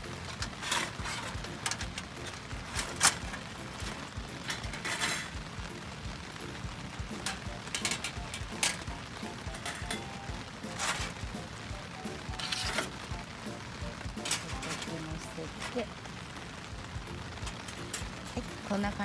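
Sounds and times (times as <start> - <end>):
metal parts clinking and knocking: 0.0 - 5.6, 6.6 - 13.3, 13.9 - 15.8, 17.3 - 18.6.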